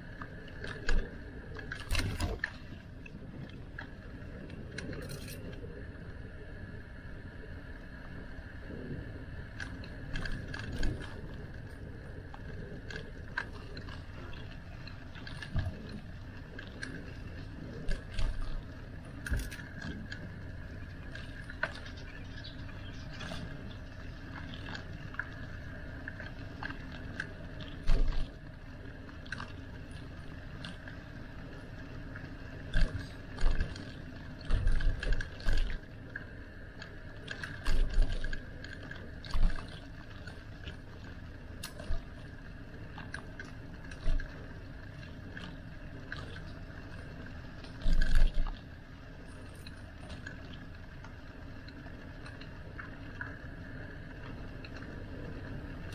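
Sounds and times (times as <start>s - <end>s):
bicycle mechanical hum: 0.0s - 55.9s
faint steady tone: 0.0s - 55.9s.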